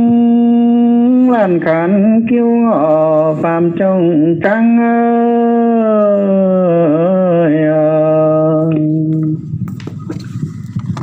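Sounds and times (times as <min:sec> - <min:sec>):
person singing folk song: 0:00.0 - 0:09.4.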